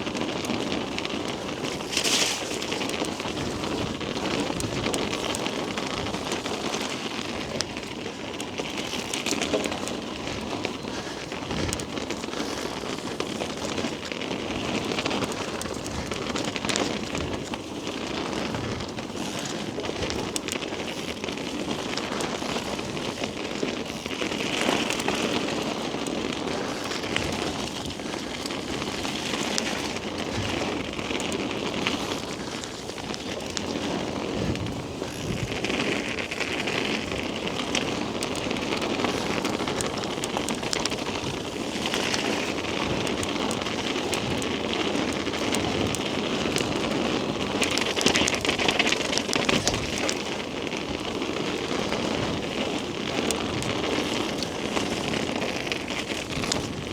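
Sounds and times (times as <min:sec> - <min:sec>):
bike tyres rolling over muddy trail: 0:00.0 - 0:56.9.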